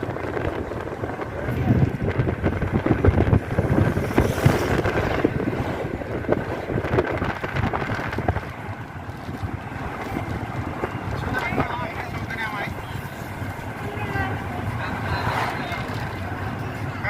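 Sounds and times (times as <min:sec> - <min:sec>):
moving vehicle rumble: 0:00.0 - 0:17.0
wind buffeting microphone: 0:00.0 - 0:17.0.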